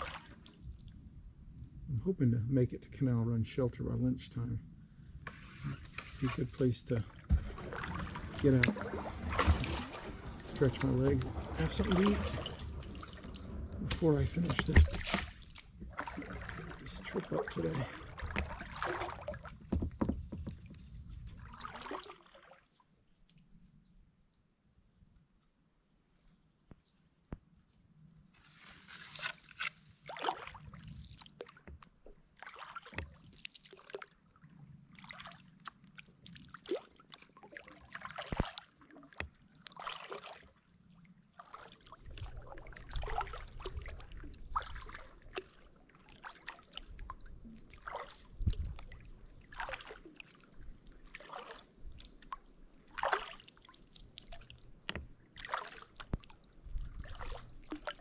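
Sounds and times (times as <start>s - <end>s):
kayak paddle splashing water: 0.0s - 0.7s, 5.3s - 22.8s, 28.4s - 34.2s, 35.0s - 58.0s.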